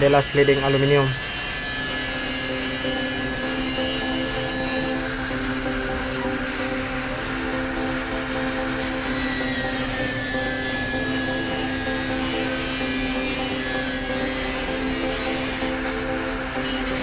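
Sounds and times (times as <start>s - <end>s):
angle grinder cutting aluminium: 0.0s - 17.0s.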